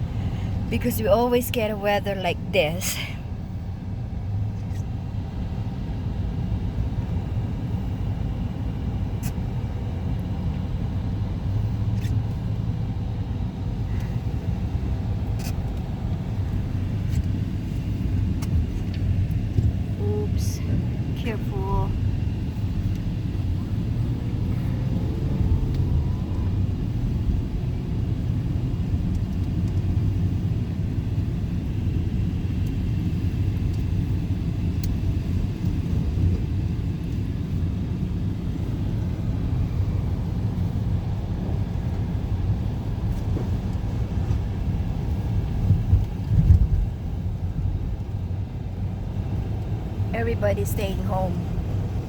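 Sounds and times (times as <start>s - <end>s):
car driving on road: 0.0s - 52.0s.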